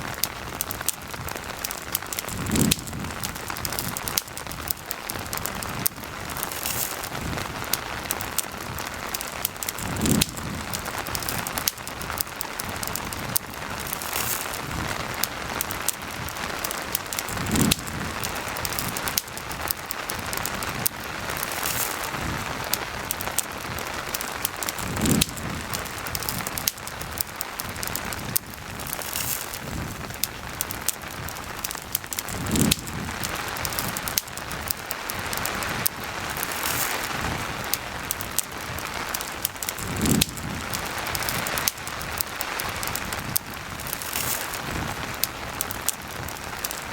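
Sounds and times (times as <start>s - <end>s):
campfire crackling: 0.0s - 46.9s
steady rain hiss: 0.0s - 46.9s.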